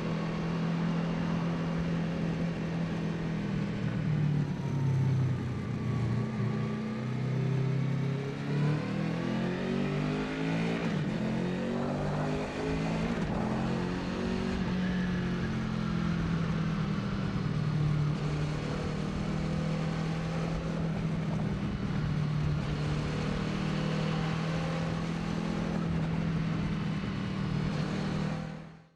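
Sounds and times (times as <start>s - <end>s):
motorcycle engine drone: 0.0s - 28.9s.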